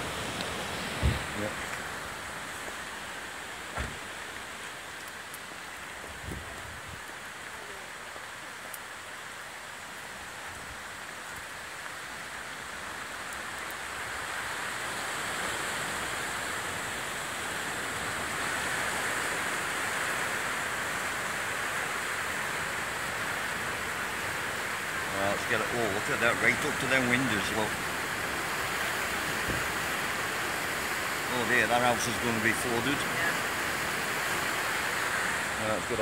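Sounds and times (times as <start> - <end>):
floodwater rushing: 0.0 - 36.0
rain falling: 0.0 - 36.0.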